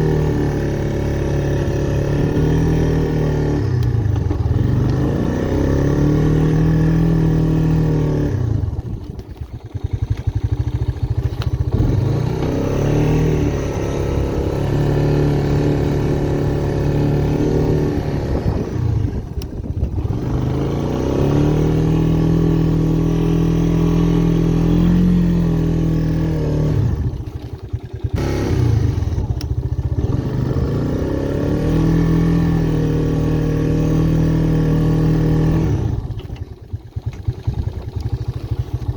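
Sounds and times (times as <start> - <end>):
four-stroke engine under throttle: 0.0 - 38.9.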